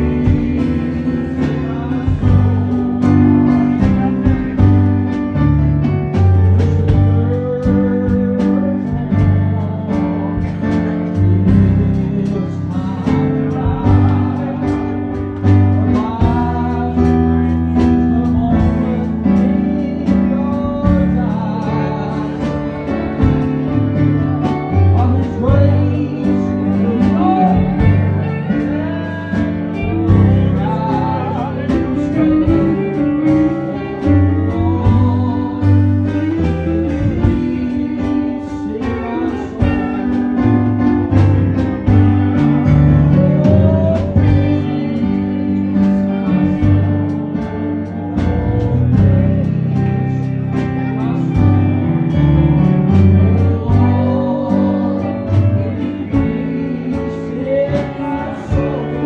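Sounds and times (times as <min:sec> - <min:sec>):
person singing: 0:00.0 - 0:05.5, 0:06.1 - 0:59.0
gospel band playing: 0:00.0 - 0:59.0.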